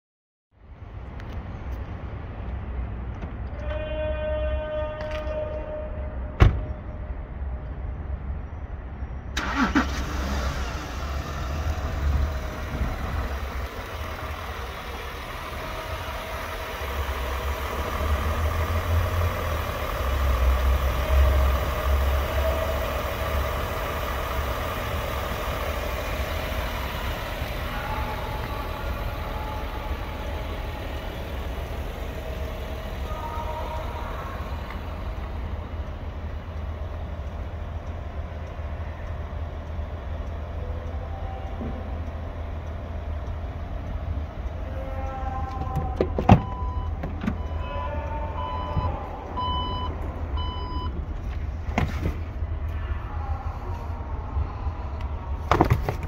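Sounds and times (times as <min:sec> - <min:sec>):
diesel engine idling: 0:09.3 - 0:56.0.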